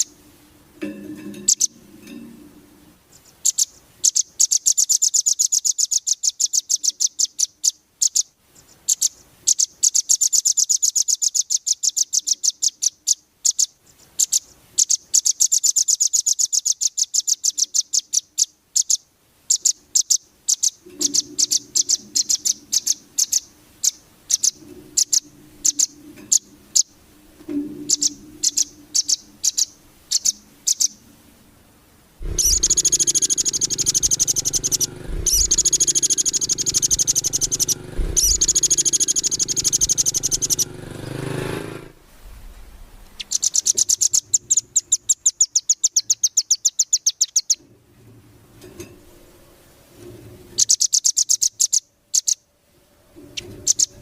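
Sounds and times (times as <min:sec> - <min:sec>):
songbird chirping: 0:00.0 - 0:42.0, 0:42.8 - 0:47.7, 0:50.0 - 0:52.5, 0:53.2 - 0:54.0
songbird trilling: 0:01.4 - 0:01.8, 0:03.1 - 0:08.3, 0:08.9 - 0:31.1, 0:32.2 - 0:41.4, 0:43.2 - 0:47.6, 0:50.6 - 0:52.4, 0:53.4 - 0:54.0.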